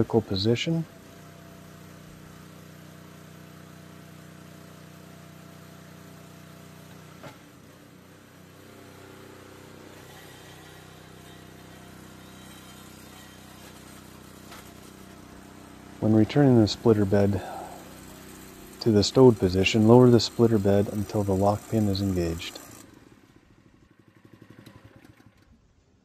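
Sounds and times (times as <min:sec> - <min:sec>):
small gasoline engine idling: 0:00.0 - 0:25.9.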